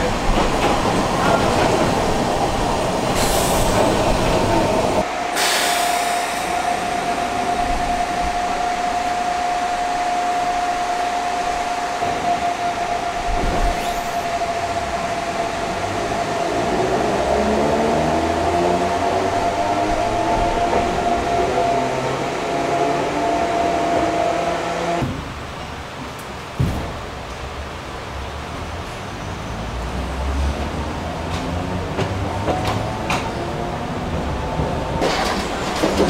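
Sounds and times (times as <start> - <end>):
electric train running past: 0.0 - 25.1, 28.8 - 36.0
steady high hum of standing train: 0.0 - 36.0.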